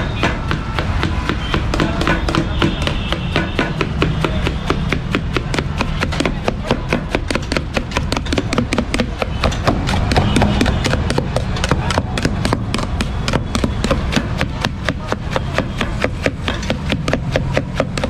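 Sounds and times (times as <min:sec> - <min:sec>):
knife chopping against steel bowl: 0:00.1 - 0:18.0.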